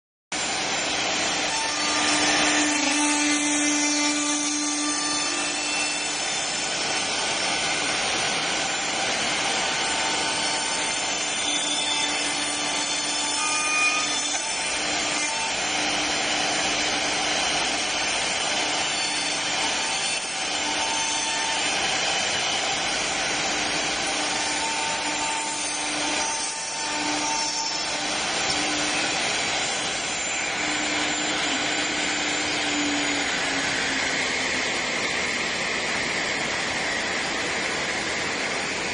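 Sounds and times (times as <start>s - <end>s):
machine motors whirring: 0.4s - 37.0s
machine hum: 0.4s - 38.9s.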